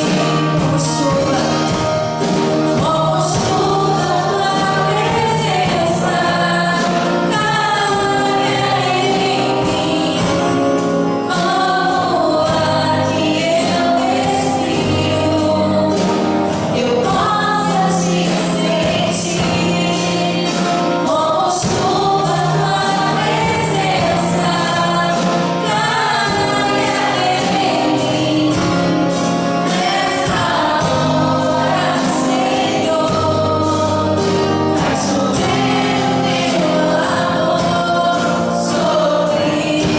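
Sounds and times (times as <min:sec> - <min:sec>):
choir singing: 0:00.0 - 0:39.9
worship band playing gospel: 0:00.0 - 0:39.9.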